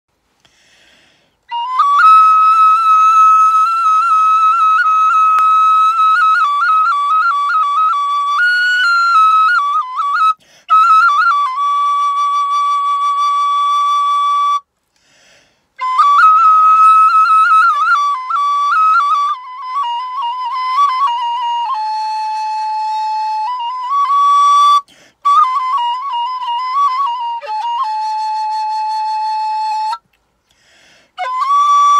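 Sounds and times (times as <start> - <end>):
wooden flute melody with trills: 1.4 - 14.8, 15.7 - 31.9.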